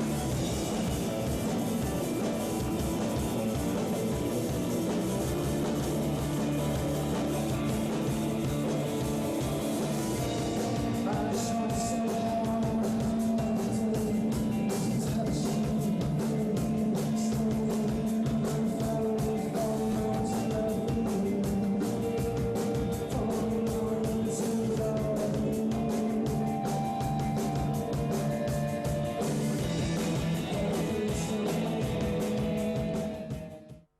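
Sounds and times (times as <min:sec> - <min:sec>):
rock music with guitar and drums: 0:00.0 - 0:33.9.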